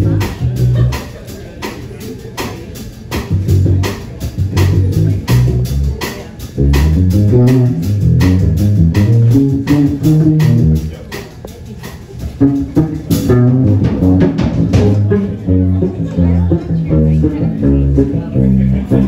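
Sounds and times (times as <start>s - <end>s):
bass line: 0.0s - 1.1s, 3.2s - 11.1s, 12.3s - 19.0s
drums keeping a steady beat: 0.0s - 19.0s.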